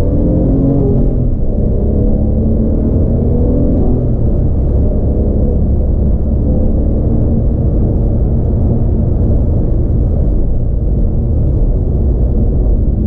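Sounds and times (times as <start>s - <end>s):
car engine rumble in cabin: 0.0s - 13.0s.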